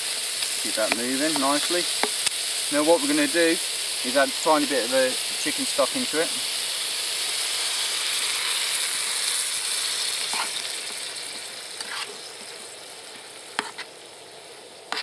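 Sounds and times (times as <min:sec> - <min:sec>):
liquid sizzling in hot pan: 0:00.0 - 0:15.0.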